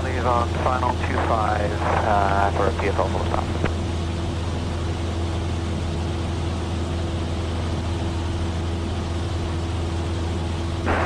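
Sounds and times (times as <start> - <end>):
airplane engine droning in cabin: 0.0 - 11.0.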